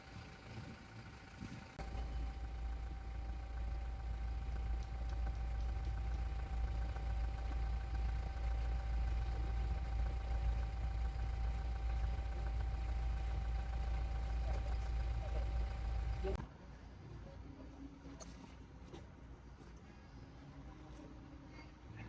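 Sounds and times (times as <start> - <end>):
vehicle engine rumbling: 0.0 - 21.6
faint steady hum: 0.0 - 22.0.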